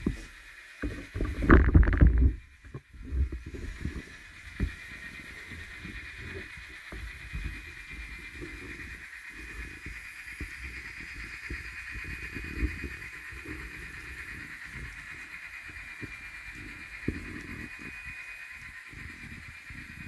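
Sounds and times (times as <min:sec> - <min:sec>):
model trains running on track: 0:00.0 - 0:01.2, 0:03.6 - 0:20.0.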